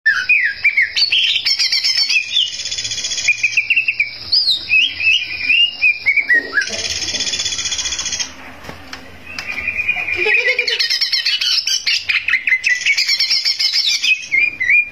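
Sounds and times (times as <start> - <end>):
bird singing whistled notes: 0.1 - 8.3, 9.2 - 14.9.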